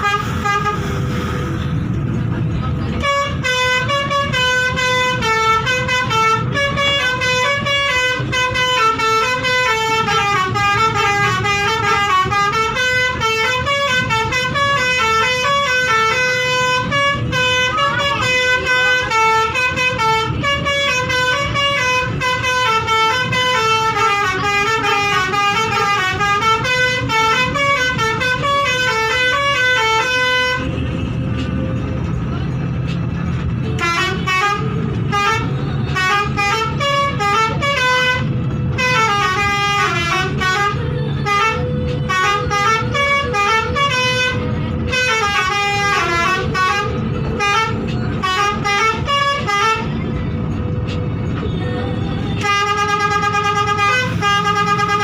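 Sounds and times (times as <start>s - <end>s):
multi-tone air horn melody: 0.0s - 2.0s, 2.8s - 55.0s.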